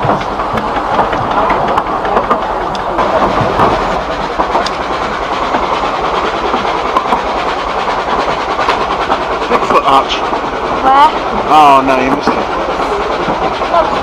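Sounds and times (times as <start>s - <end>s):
train carriage rattling: 0.0s - 14.0s
wheel clicks over rail joints: 0.0s - 14.0s.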